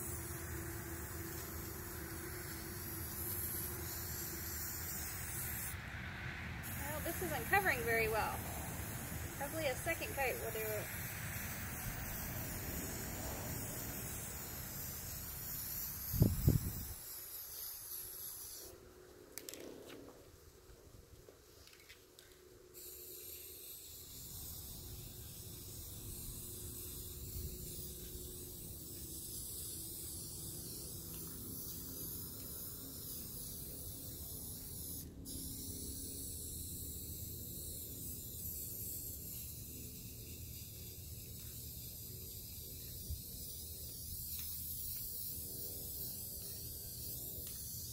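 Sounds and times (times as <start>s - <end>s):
aerosol spray can hissing: 0.0s - 5.8s, 6.6s - 18.7s, 22.8s - 47.9s.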